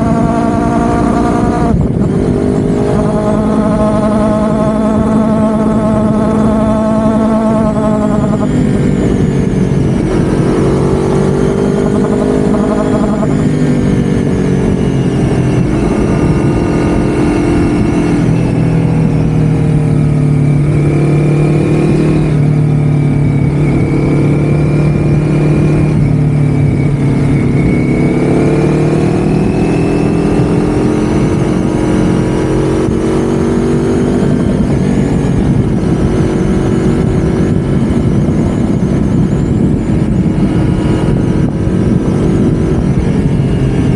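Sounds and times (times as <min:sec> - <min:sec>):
road and wind rumble: 0:00.0 - 0:43.9
vehicle engine running: 0:00.0 - 0:43.9.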